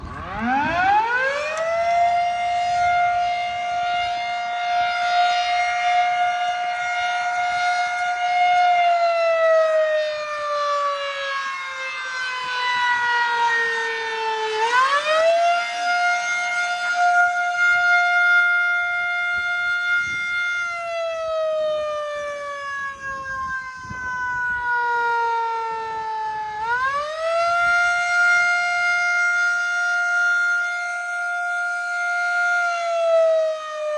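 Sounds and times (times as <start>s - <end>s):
electromechanical fire siren: 0.0s - 33.9s.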